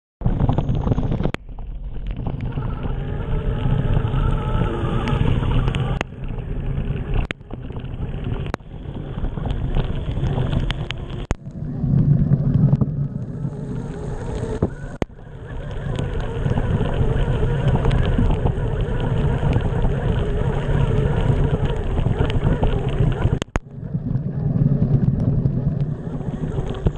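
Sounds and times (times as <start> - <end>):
wind buffeting microphone: 0.2 - 26.9
rain and running water: 0.3 - 26.9.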